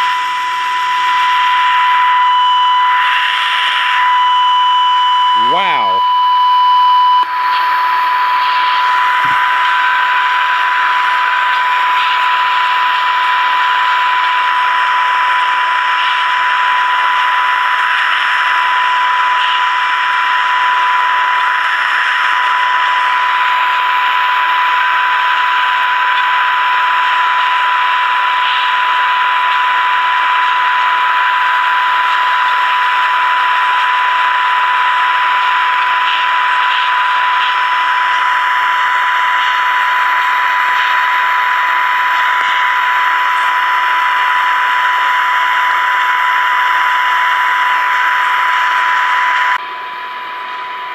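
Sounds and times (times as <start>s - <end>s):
radio hiss: 0.0s - 50.9s
radio test tone: 0.0s - 50.9s.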